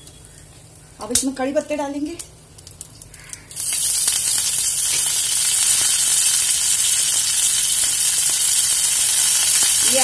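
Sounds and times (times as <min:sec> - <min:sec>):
leaves sizzling in hot oil: 0:00.8 - 0:10.0.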